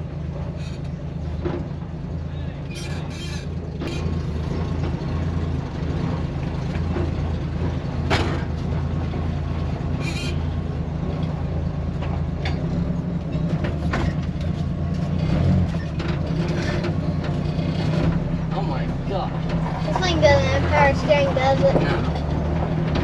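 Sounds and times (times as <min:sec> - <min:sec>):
truck engine low rumble: 0:00.0 - 0:23.0.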